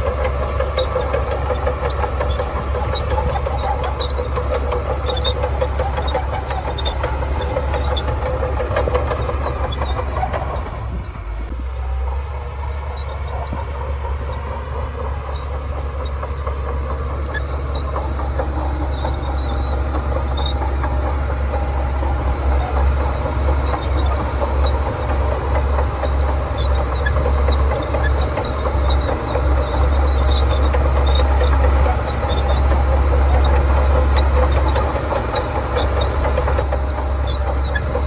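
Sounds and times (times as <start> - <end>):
bulldozer diesel engine drone: 0.0 - 38.0
rattling clatter of tracks: 0.0 - 38.0.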